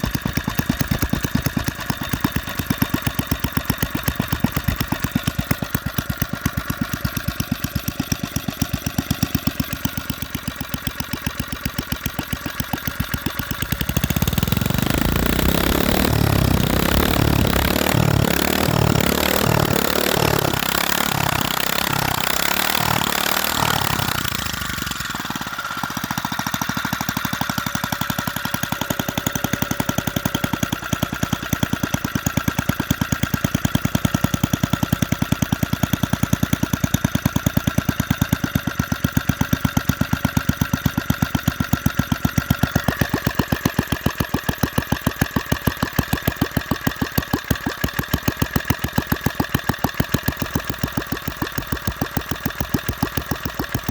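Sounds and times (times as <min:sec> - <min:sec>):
small engine idling: 0:00.0 - 0:53.9.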